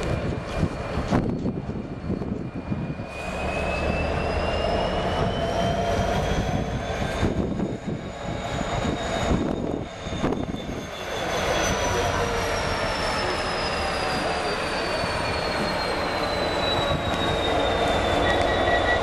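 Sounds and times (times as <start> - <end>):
diesel engine low rumble: 0.0 - 19.0
turbocharger whine: 0.6 - 19.0.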